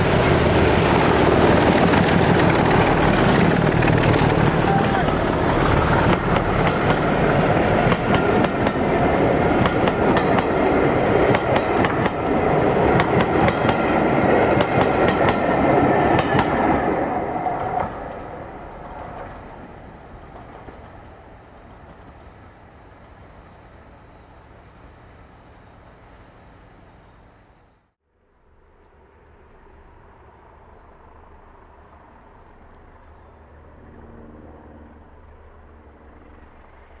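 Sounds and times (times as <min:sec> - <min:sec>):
diesel train passing: 0:00.0 - 0:37.0.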